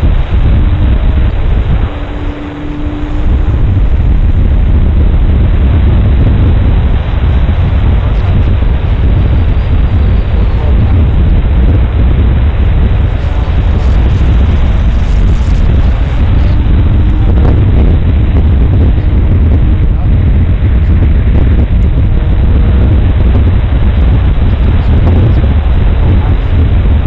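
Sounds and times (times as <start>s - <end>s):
wind rush and rumble: 0.0s - 27.0s.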